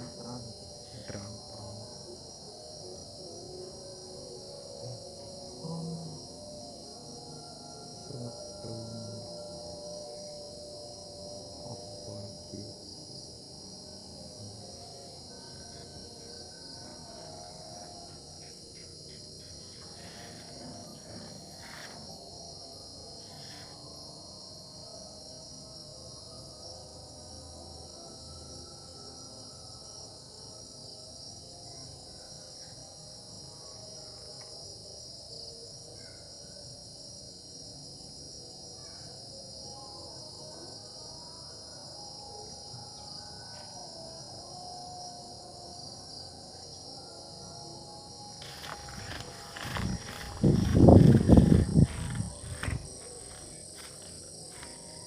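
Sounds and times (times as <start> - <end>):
crickets trilling: 0.0 - 55.0
faint lower insect calls: 0.0 - 55.0.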